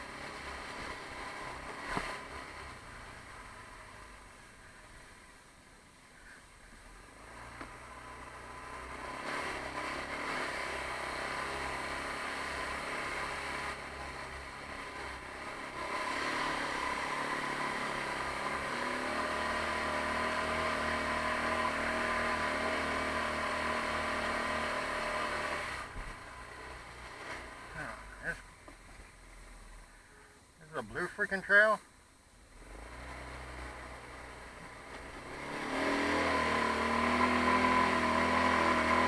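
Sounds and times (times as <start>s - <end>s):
atv engine revving: 0.0s - 4.2s, 7.2s - 28.4s, 32.6s - 39.0s.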